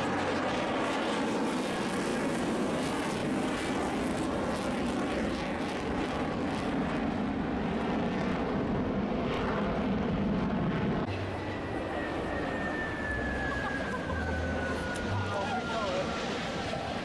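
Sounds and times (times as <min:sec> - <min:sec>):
jet flying overhead: 0:00.0 - 0:17.0.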